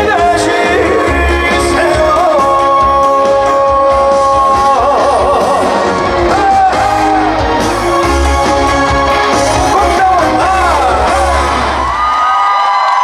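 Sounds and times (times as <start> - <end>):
person singing ballad with band: 0.0 - 12.0.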